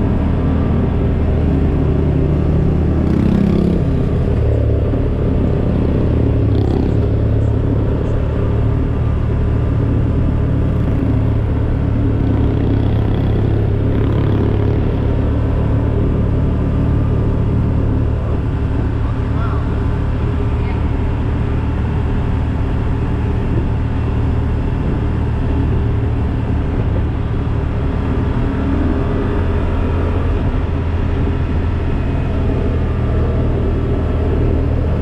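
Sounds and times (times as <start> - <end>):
road noise: 0.0 - 35.0
vehicle engine droning: 0.0 - 35.0.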